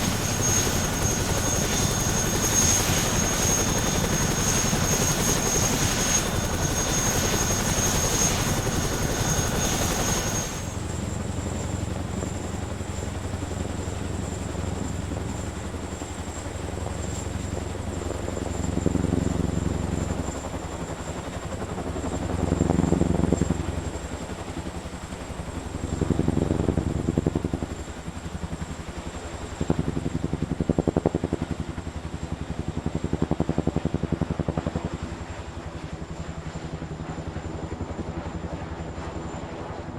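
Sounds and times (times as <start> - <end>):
helicopter rotors beating: 0.0 - 39.9.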